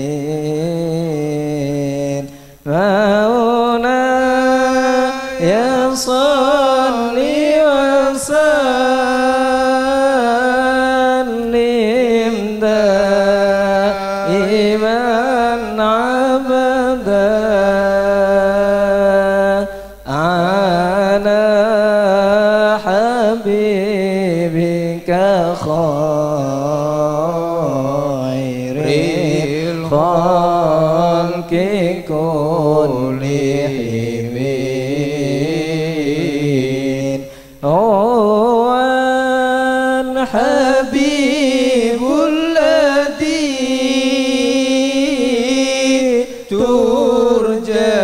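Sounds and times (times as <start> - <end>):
person chanting: 0.0 - 48.0.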